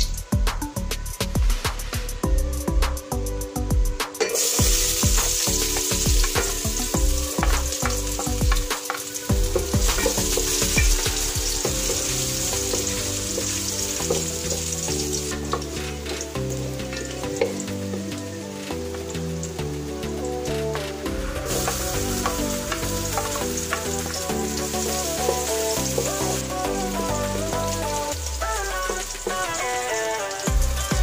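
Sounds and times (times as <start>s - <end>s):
aromatics sizzling in hot oil: 0.0s - 31.0s
background music: 0.0s - 31.0s.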